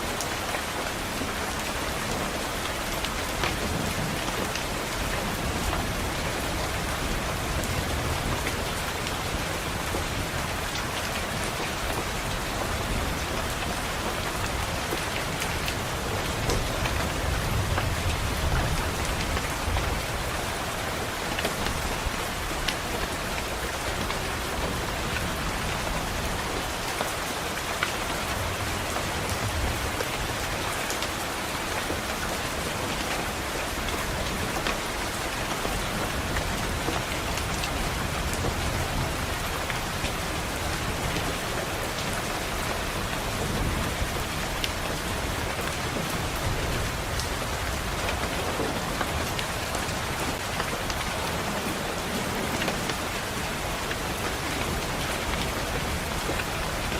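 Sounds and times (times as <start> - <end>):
rain pattering on a window: 0.0 - 56.9.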